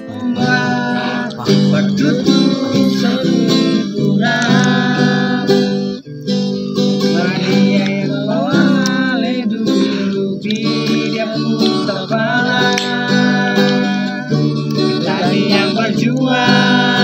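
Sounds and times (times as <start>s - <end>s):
person singing: 0.0s - 17.0s
strummed acoustic guitar: 0.0s - 17.0s.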